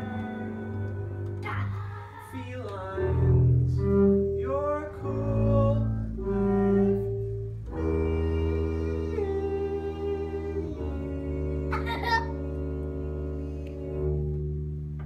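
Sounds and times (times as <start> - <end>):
bowed double bass: 0.0 - 15.0.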